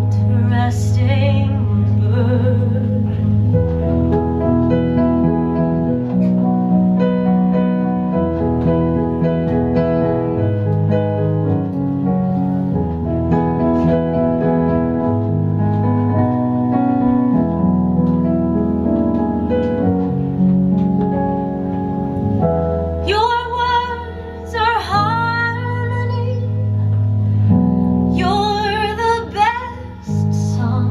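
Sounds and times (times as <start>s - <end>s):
keyboard playing chords: 1.1s - 29.5s.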